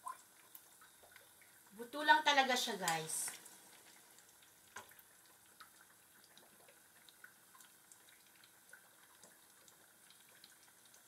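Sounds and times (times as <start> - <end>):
vegetables frying in hot oil: 0.8 - 11.0.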